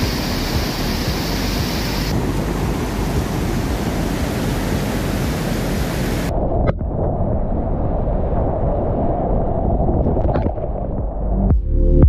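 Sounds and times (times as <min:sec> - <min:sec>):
roar of rapids and waterfall: 0:00.0 - 0:11.3.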